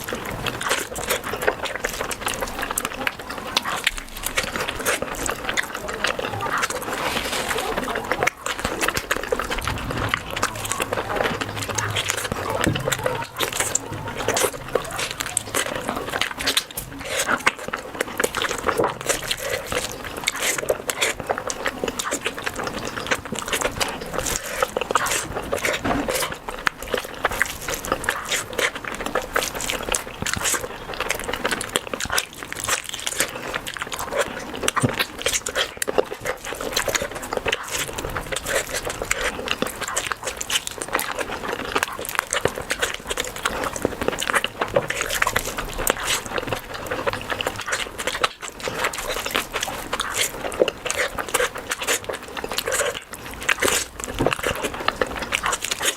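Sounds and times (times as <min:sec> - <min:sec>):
chewing and wet mouth sounds: 0:00.0 - 0:55.9.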